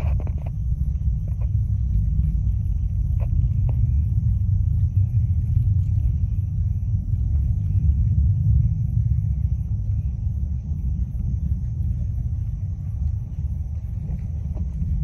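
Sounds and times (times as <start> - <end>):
distant rocket launch rumble: 0.0 - 15.0.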